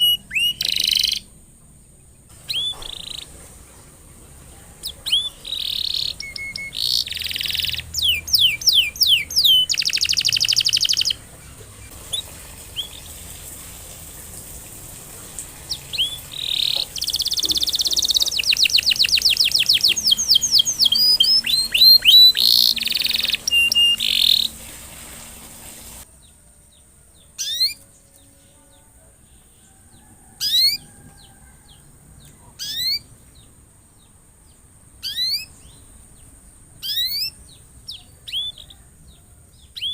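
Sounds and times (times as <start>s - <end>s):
canary singing trills: 0.0s - 13.3s, 15.6s - 24.7s, 26.1s - 39.9s.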